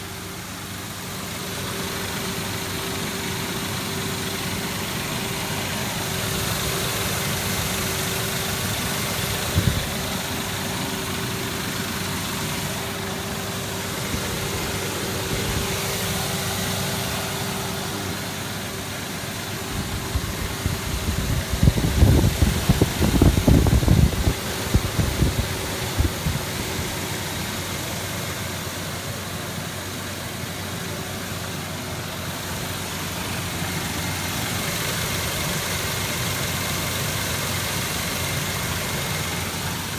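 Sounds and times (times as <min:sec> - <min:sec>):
engine idling with ticking: 0:00.0 - 0:39.9.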